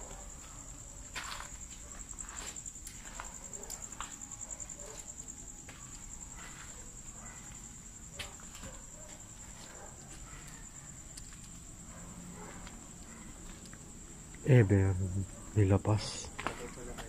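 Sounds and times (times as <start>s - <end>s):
crickets chirring: 0.0s - 17.0s
soft footsteps: 0.1s - 14.4s.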